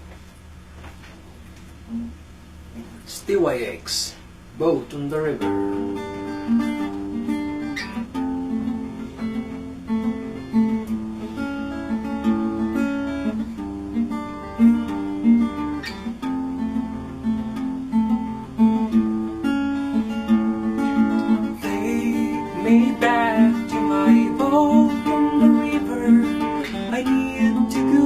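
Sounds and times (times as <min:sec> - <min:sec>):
acoustic guitar strumming: 0:04.6 - 0:28.0.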